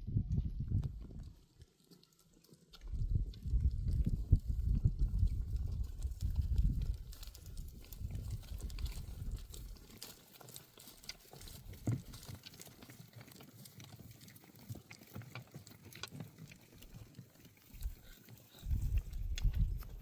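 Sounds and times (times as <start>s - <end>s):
hooves on stony ground: 0.1s - 20.0s.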